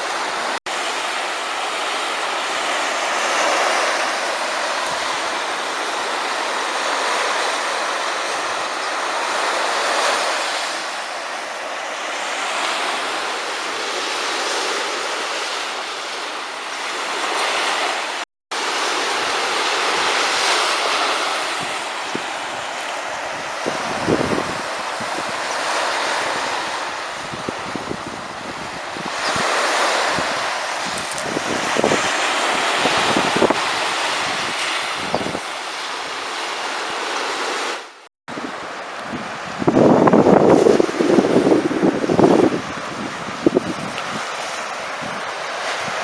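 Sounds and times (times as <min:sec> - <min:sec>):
surf breaking on beach: 0:00.0 - 0:46.0.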